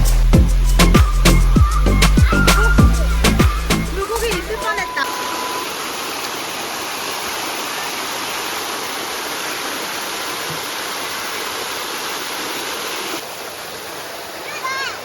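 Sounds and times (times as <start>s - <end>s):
stream rushing over rocks: 1.0s - 15.0s.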